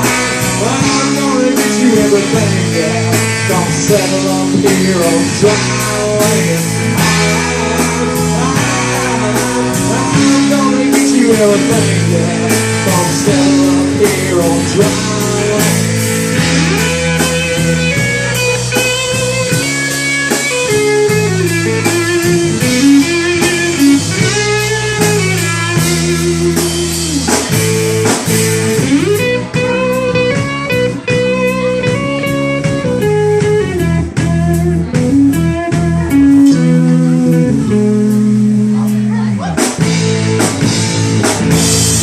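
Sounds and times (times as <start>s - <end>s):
bass guitar: 0.0s - 42.0s
lead guitar with bent notes: 0.0s - 42.0s
steady drum beat: 0.0s - 42.0s.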